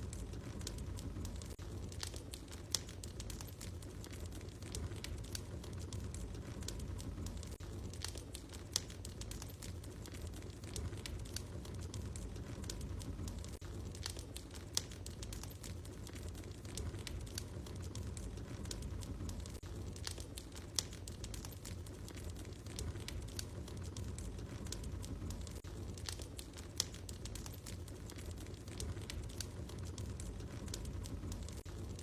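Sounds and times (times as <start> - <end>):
low steady rumble: 0.0 - 32.0
wood fire crackling: 0.0 - 32.0.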